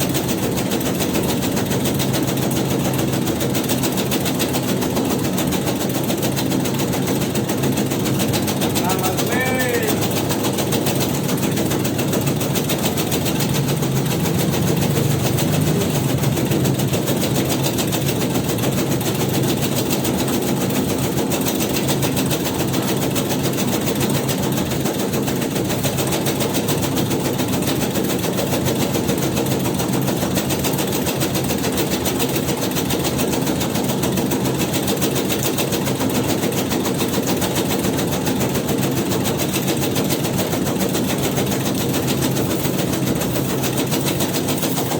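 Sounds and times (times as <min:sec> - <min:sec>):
shredding machine chattering: 0:00.0 - 0:44.9.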